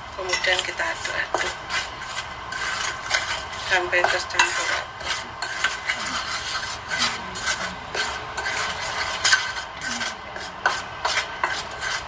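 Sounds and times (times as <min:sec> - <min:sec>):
spoon scraping dry flour: 0:00.2 - 0:12.0.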